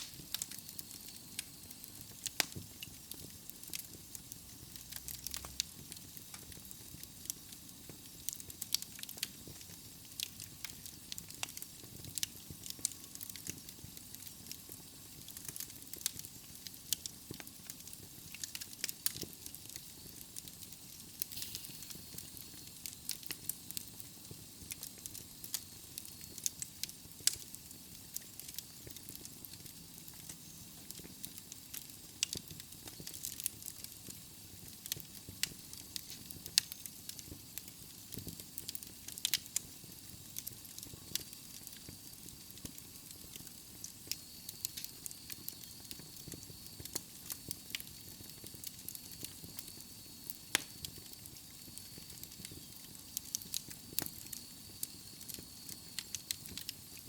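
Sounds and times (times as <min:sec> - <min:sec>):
fire crackling and popping: 0:00.0 - 0:57.0
flames rumbling and hissing: 0:00.0 - 0:57.0.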